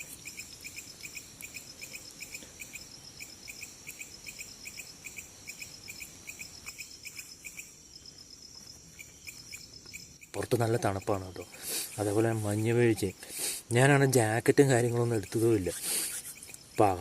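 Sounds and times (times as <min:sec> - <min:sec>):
crickets chirping: 0:00.0 - 0:17.0
high-pitched insect trill: 0:00.0 - 0:17.0.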